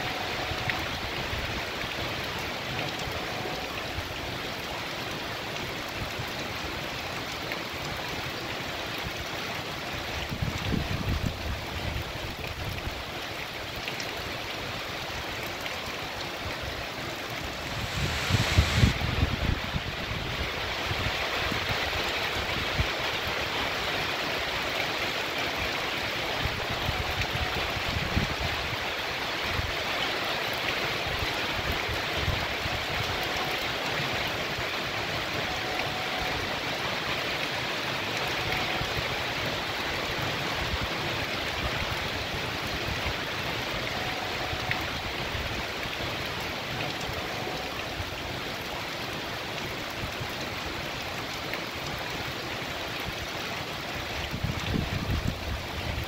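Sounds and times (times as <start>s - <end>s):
heavy rain pouring: 0.0s - 56.0s
runoff water running: 0.0s - 56.0s.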